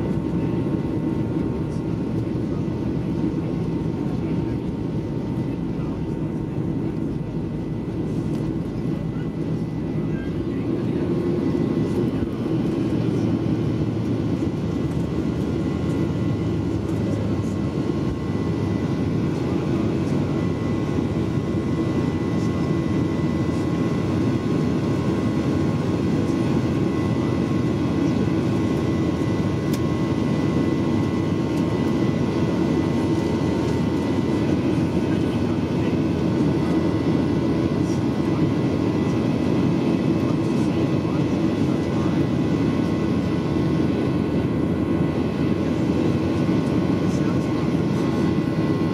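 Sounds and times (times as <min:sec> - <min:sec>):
jet engines roaring in cabin: 0:00.0 - 0:48.9.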